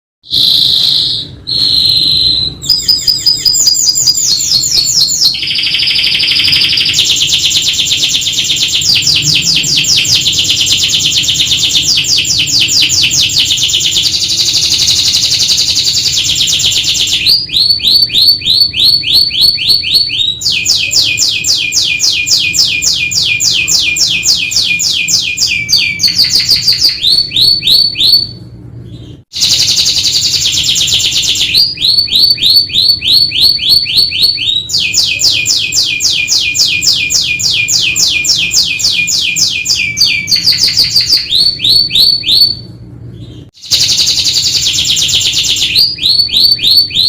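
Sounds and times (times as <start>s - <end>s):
canary singing trilled rolls: 0.2s - 47.0s.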